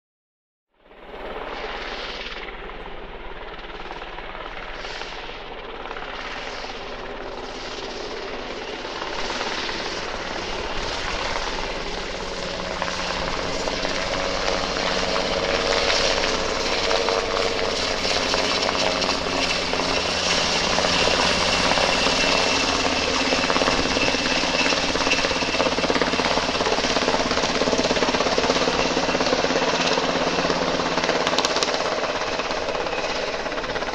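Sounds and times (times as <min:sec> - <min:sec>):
helicopter rotor chopping: 0:00.9 - 0:33.9
high turbine whine: 0:00.9 - 0:33.9.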